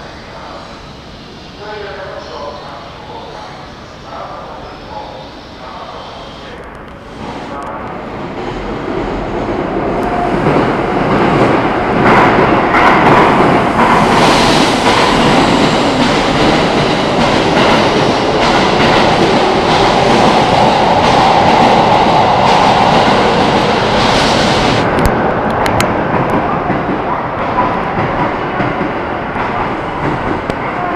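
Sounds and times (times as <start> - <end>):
steady train whine: 0.0 - 30.9
train slowing into station: 0.0 - 30.9.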